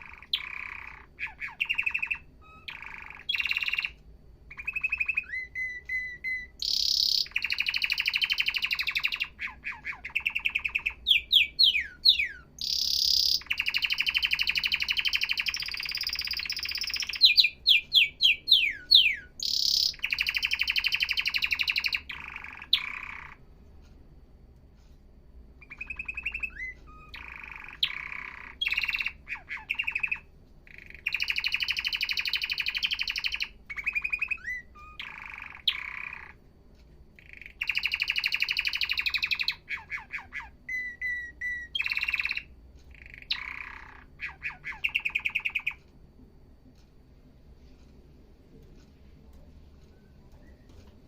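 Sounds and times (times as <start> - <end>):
canary singing: 0.0 - 23.5, 25.6 - 36.5, 37.1 - 45.9, 49.8 - 51.0.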